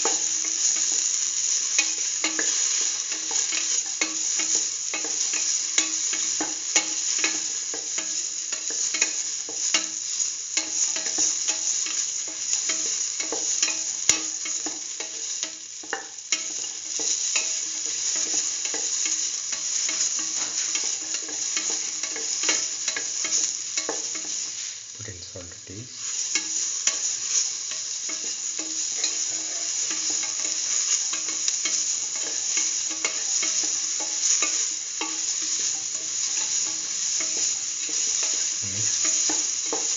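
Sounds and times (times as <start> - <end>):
spatula scraping a pan: 0.0 - 10.0, 10.6 - 24.9, 26.0 - 39.9
vegetables sizzling in oil: 0.0 - 39.9.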